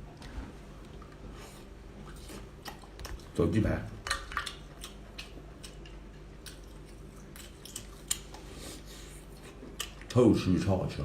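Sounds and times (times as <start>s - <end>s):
person chewing food: 0.2s - 10.2s.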